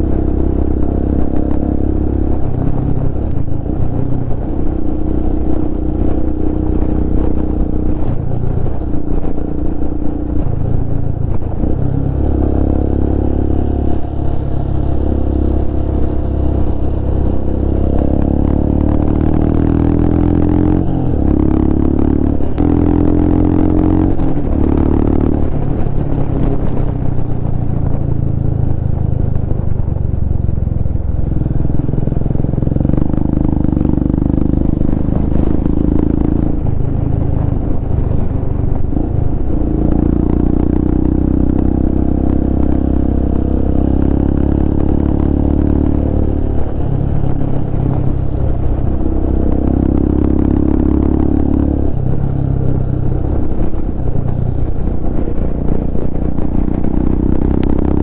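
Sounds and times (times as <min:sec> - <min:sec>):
motorcycle engine running loud: 0:00.0 - 0:58.0.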